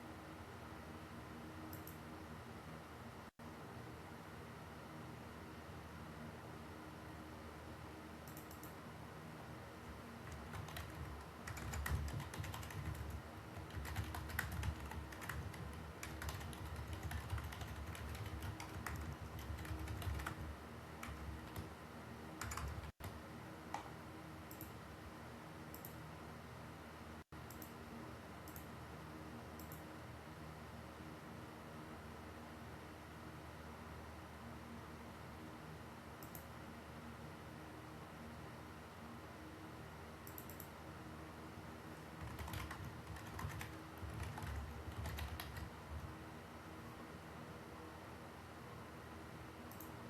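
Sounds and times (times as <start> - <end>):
steady low hiss: 0.0 - 50.0.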